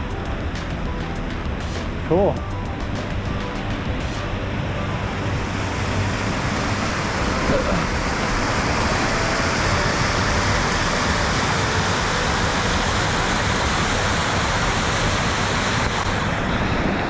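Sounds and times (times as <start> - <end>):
waterfall rushing over rocks: 0.0 - 17.0.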